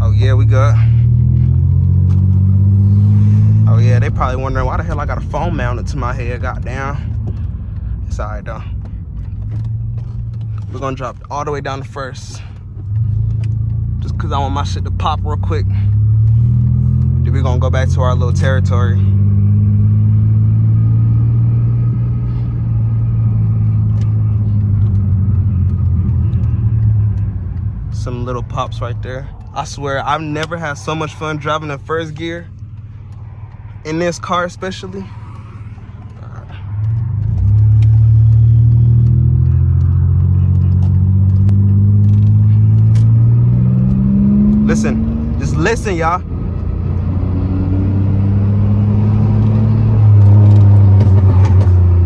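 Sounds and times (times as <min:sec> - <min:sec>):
car engine droning: 0:00.0 - 0:52.0
exhaust pops: 0:00.0 - 0:52.0.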